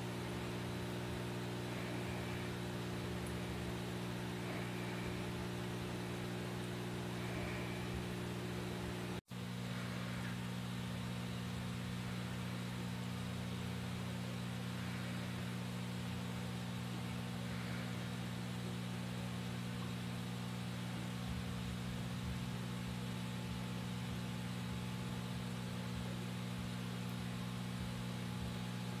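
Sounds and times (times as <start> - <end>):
aquarium air pump hum: 0.0 - 29.0.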